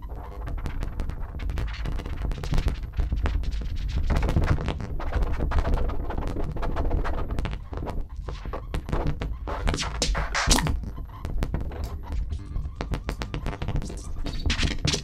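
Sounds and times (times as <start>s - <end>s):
glitchy clicks and crackles: 0.0s - 15.0s.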